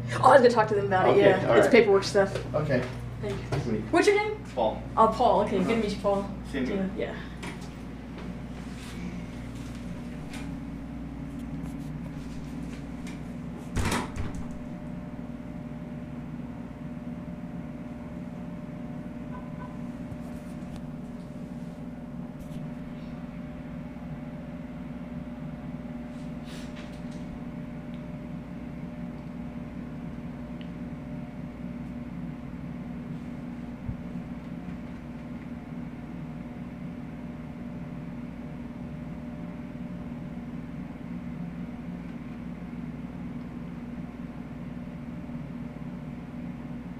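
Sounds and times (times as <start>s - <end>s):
room tone hum: 0.0s - 46.9s.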